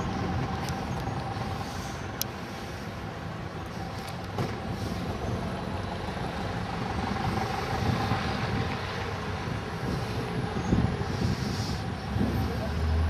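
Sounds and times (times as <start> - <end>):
low rumble of motor vehicles: 0.0 - 13.0.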